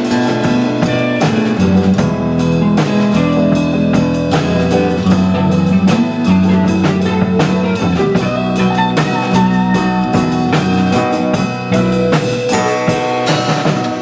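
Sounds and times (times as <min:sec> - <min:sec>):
drum kit beat: 0:00.0 - 0:14.0
rock band playing: 0:00.0 - 0:14.0
sustained electric guitar notes: 0:00.0 - 0:14.0.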